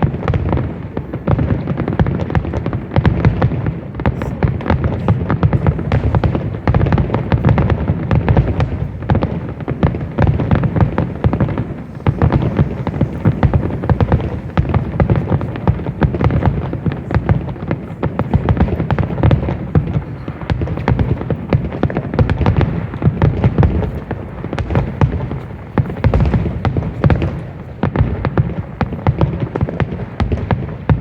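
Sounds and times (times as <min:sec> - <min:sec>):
deep firework booms: 0:00.0 - 0:31.0
fireworks bursts and crackling: 0:00.0 - 0:31.0.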